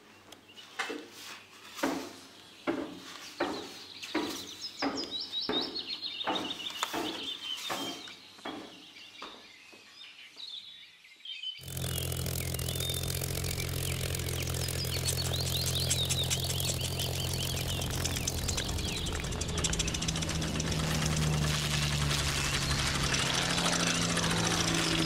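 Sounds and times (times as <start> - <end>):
small birds twittering: 2.2 - 25.0.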